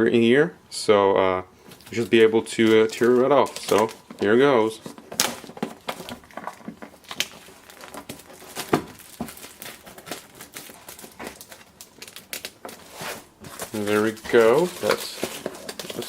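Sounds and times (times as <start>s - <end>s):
plastic wrapping crinkling: 1.6s - 16.0s.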